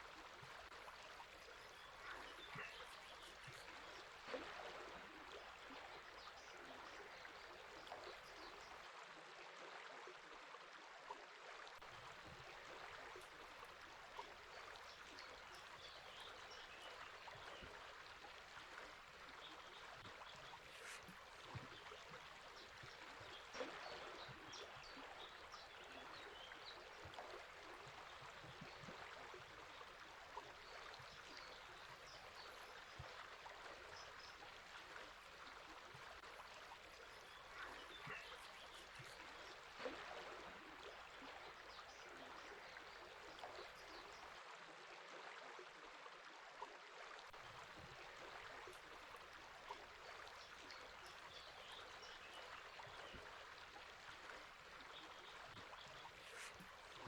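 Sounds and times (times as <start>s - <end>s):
river flowing: 0.0s - 8.8s, 11.8s - 44.4s, 47.4s - 57.0s.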